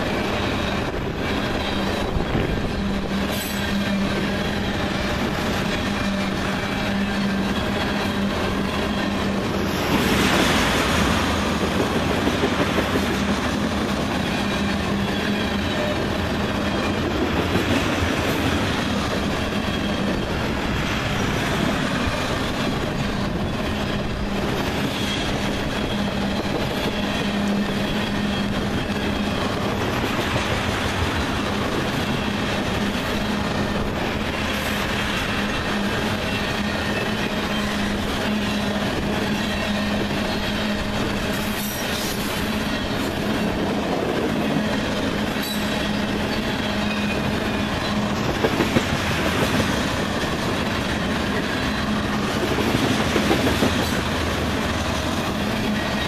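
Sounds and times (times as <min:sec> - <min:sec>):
clickety-clack of rail joints: 0:00.0 - 0:56.0
freight train wheels rumbling: 0:00.0 - 0:56.0.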